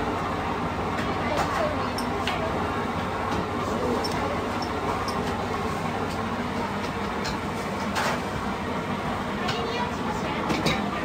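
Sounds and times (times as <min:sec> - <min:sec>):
kitchen machine hum: 0:00.0 - 0:11.0.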